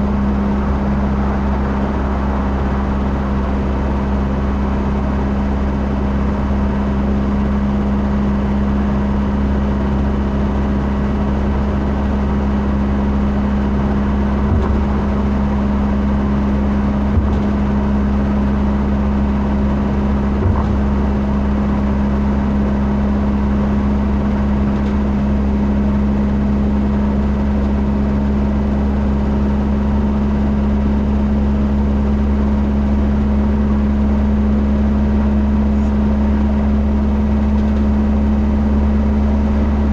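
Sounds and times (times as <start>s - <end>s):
constant hum tone: 0.0s - 39.9s
vehicle engine droning: 0.0s - 39.9s.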